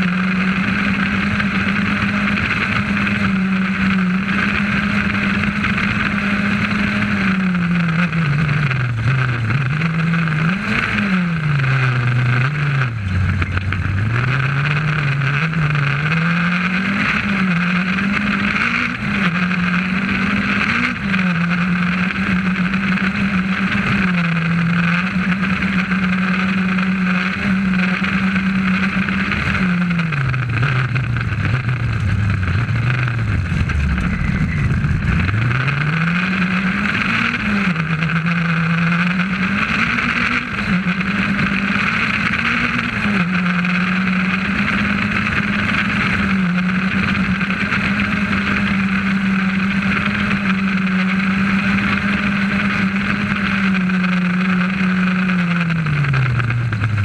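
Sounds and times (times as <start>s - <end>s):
car engine revving: 0.0s - 57.0s
road and cabin noise: 0.0s - 57.0s.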